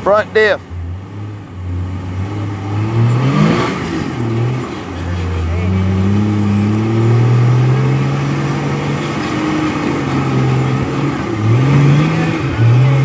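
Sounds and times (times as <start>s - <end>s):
engine revving: 0.0s - 13.0s
engine running under load: 0.0s - 13.0s.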